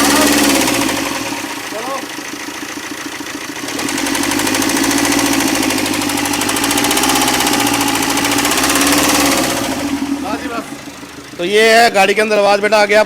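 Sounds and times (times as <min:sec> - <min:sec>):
car engine knocking: 0:00.0 - 0:13.0.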